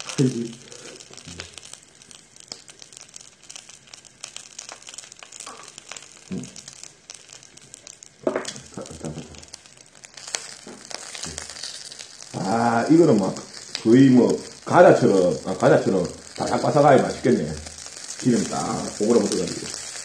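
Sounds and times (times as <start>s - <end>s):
meat crackling on a grill pan: 0.0s - 20.0s.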